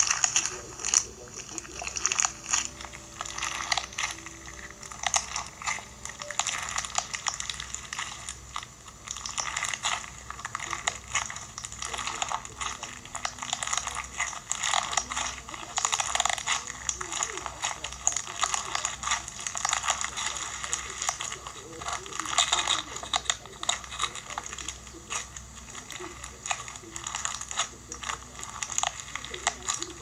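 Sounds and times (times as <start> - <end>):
slime crunching and crackling: 0.0 - 30.0.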